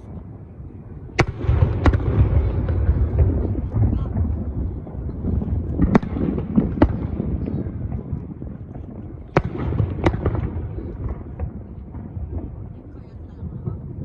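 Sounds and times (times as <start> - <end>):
fireworks bangs: 0.0 - 14.0
low rumble of bursts: 0.0 - 14.0.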